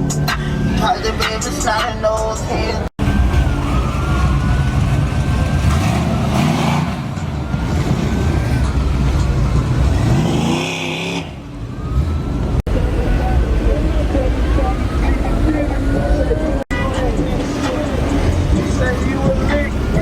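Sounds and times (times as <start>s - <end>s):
car engine rumbling and revving: 0.0s - 20.0s.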